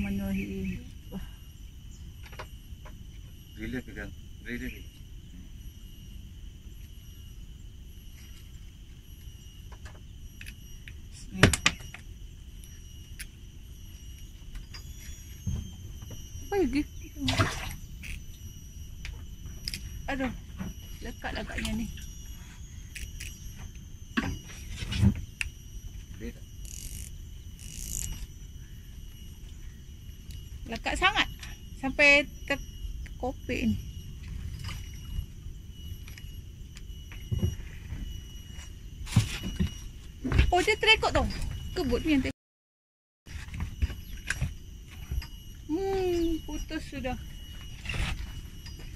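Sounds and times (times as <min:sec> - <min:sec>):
high-pitched insect drone: 0:00.0 - 0:42.4, 0:43.3 - 0:48.9.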